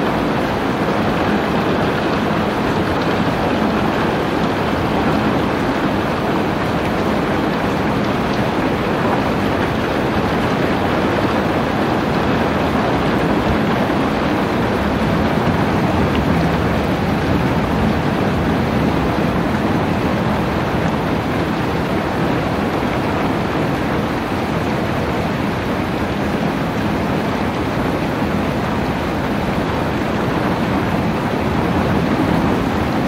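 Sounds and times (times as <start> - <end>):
steady rain hiss: 0.0 - 33.0.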